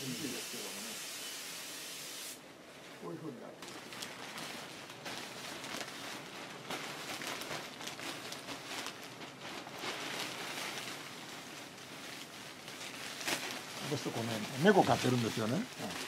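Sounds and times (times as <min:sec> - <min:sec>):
plastic sheeting rustling: 0:02.5 - 0:16.0.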